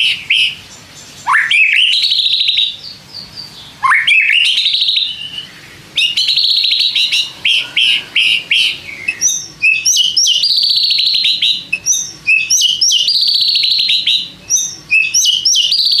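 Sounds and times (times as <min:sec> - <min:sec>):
bird singing whistled notes: 0:00.0 - 0:16.0.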